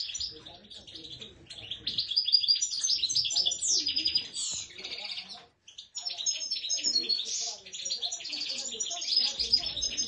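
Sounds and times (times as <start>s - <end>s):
songbird twittering and trilling: 0.0s - 10.0s.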